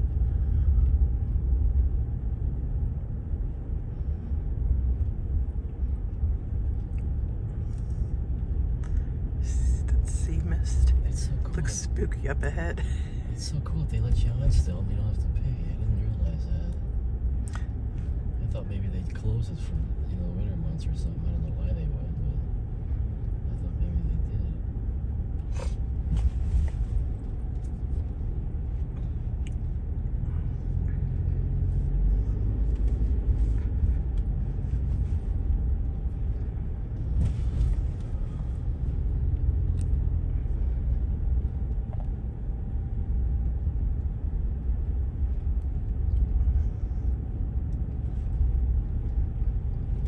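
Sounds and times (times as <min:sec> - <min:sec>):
engine and tyres rumbling on sand: 0:00.0 - 0:50.0.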